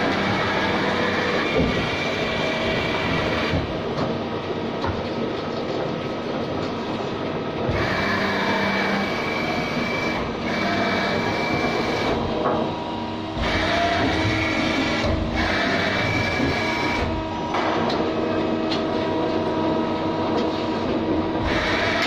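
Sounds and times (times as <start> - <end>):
high machine whine: 0.0 - 4.8, 6.3 - 22.0
machine mechanical hum: 0.0 - 22.0.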